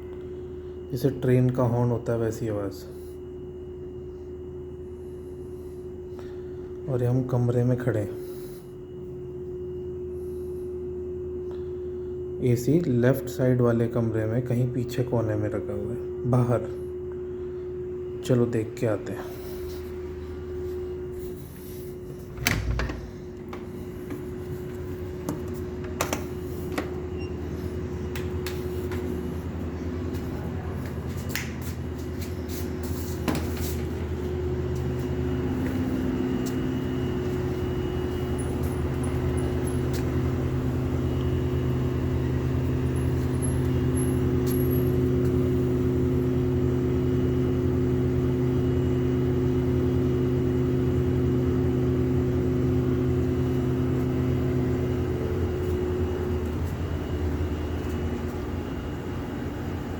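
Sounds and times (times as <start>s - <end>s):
air conditioner humming: 0.0s - 59.9s.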